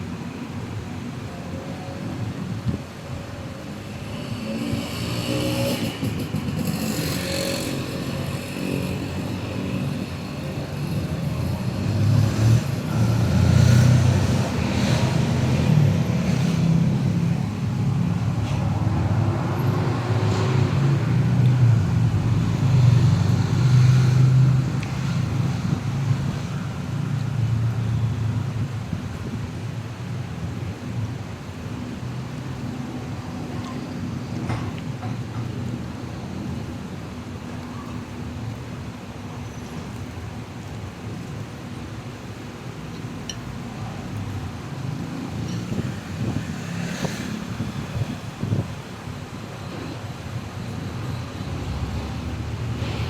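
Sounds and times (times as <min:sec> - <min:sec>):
vehicle engines passing: 0:00.0 - 0:53.0.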